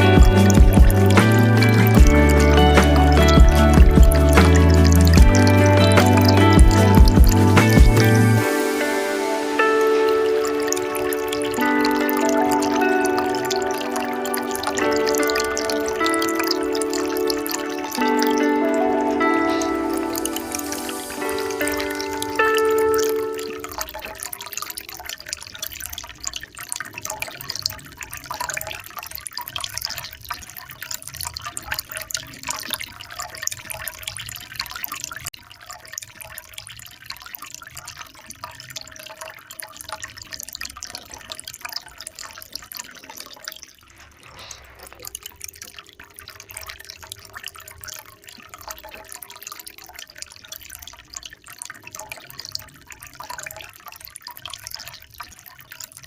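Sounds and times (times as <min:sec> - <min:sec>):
small drips: 0:00.0 - 0:56.0
water trickling and splashing: 0:00.0 - 0:56.0.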